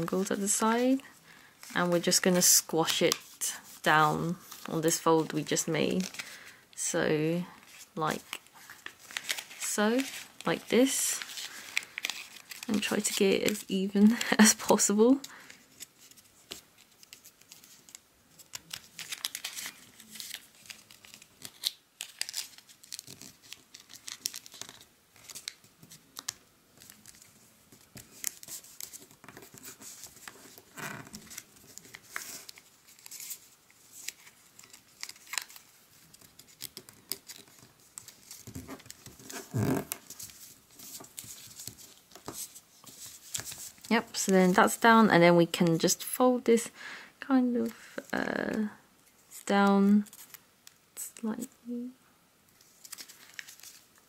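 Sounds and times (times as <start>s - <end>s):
paper crinkling and rustling: 0.0s - 6.5s, 7.5s - 44.9s, 47.6s - 50.8s, 52.5s - 54.0s.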